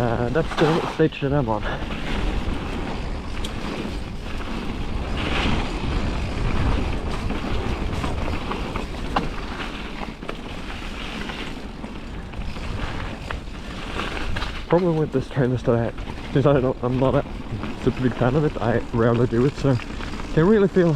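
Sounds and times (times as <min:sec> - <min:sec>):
bike clicks: 0:00.0 - 0:20.9
tyres rolling on wet ground: 0:00.0 - 0:20.9
wind rushing over microphone: 0:00.0 - 0:20.9.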